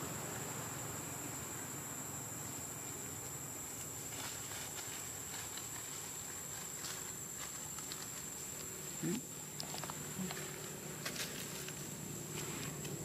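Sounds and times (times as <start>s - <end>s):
insects droning: 0.0s - 13.0s
faint ticks and rustles: 2.4s - 13.0s.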